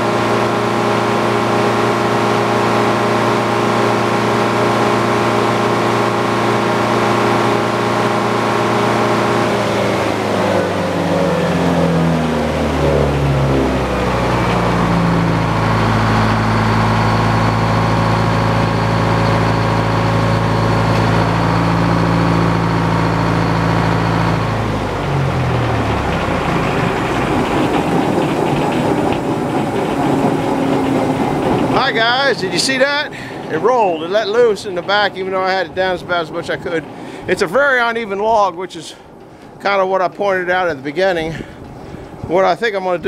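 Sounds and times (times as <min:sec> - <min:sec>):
sawmill blade spinning: 0:00.0 - 0:43.0.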